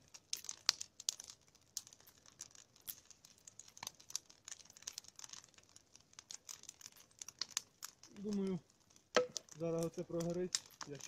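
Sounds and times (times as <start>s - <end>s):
log fire crackling and popping: 0.0s - 11.0s.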